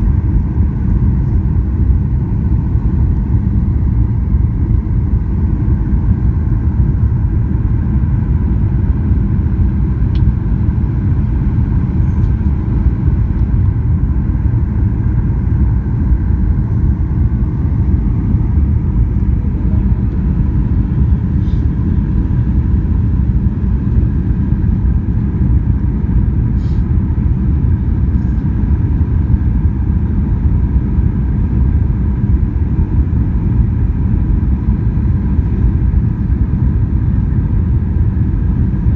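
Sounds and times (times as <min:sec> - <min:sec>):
faint steady whine: 0:00.0 - 0:38.9
jet engine and airflow rumble: 0:00.0 - 0:38.9.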